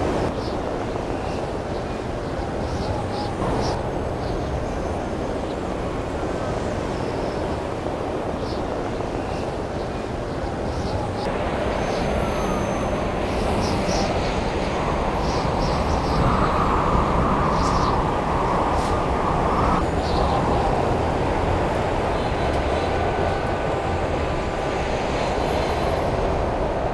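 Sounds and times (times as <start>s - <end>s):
rumbling city noise: 0.0s - 26.9s.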